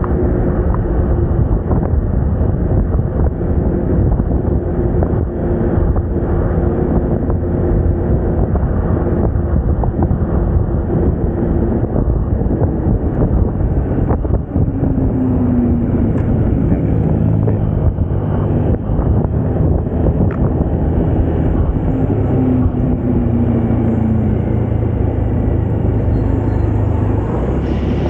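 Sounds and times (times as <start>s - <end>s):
road noise: 0.0s - 28.0s
scooter engine drone: 0.0s - 28.0s
wind buffeting microphone: 0.0s - 28.0s.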